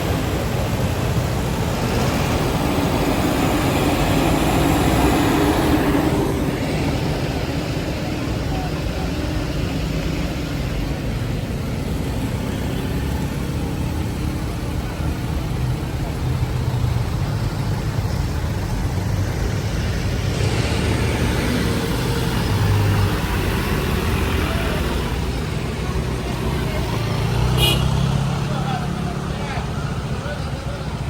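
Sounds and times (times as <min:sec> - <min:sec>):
traffic rumble: 0:00.0 - 0:31.0
vehicle approaching: 0:00.0 - 0:31.0.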